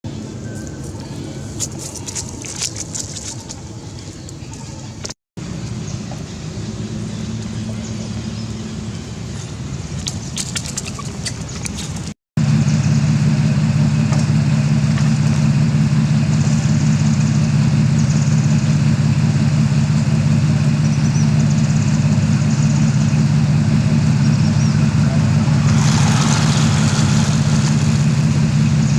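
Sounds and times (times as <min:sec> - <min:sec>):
engine idling with low hum: 0:00.0 - 0:28.9.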